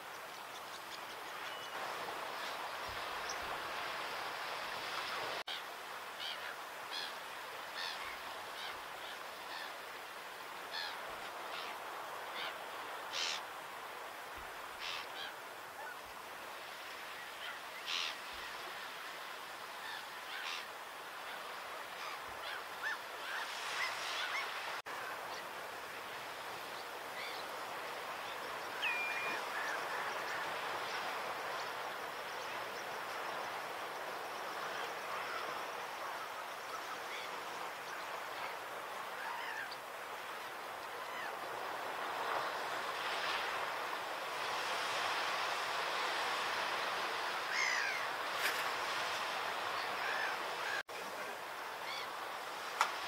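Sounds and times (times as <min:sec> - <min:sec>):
outdoor background hiss: 0:00.0 - 0:53.0.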